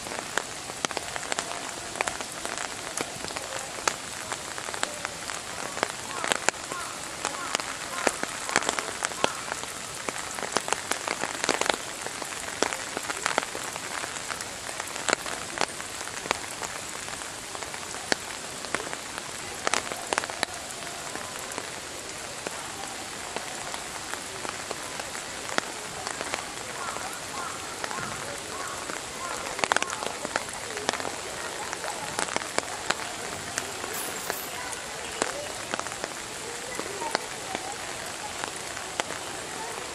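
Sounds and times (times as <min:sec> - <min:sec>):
rain falling on wet rock: 0:00.0 - 0:39.9.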